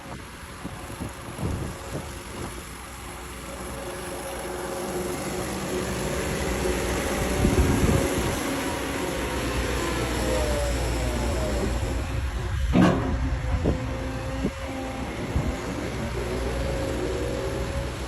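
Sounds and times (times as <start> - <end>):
heavy machinery engine noise: 0.0 - 18.0.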